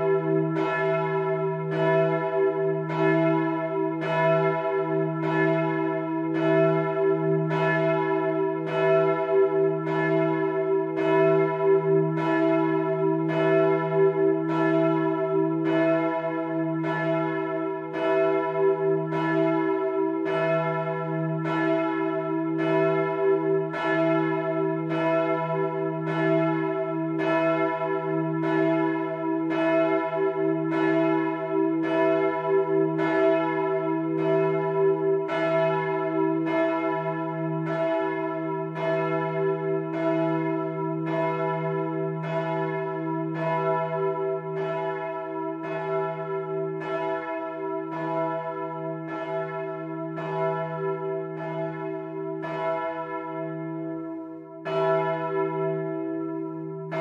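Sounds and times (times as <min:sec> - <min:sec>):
large church bell ringing: 0:00.0 - 0:57.0.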